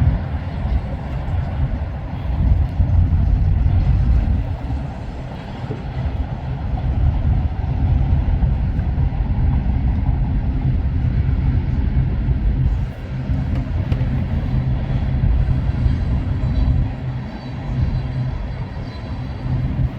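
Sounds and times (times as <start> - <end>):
freight train rumbling: 0.0 - 19.9.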